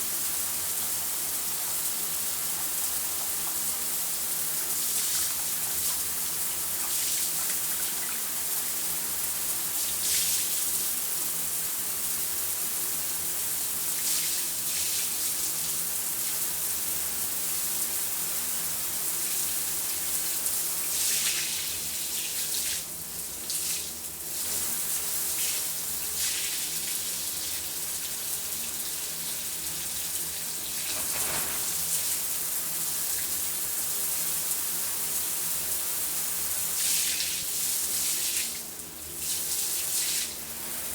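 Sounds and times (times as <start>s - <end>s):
shower water spraying: 0.7s - 12.4s, 13.6s - 17.6s, 18.4s - 40.9s.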